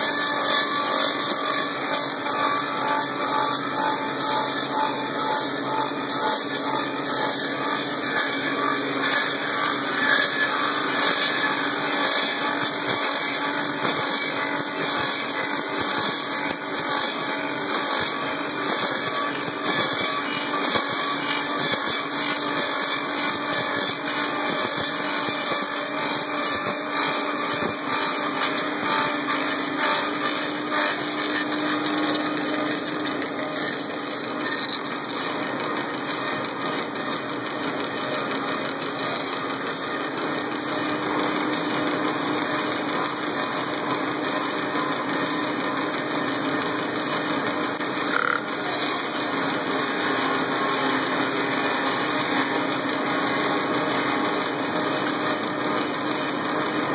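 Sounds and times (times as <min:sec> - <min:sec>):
lathe cutting wood: 0:00.0 - 0:56.9.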